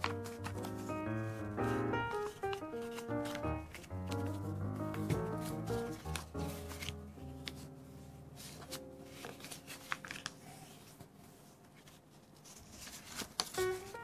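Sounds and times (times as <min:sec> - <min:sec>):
faint background music: 0:00.0 - 0:11.9
paper rustling: 0:00.0 - 0:14.0.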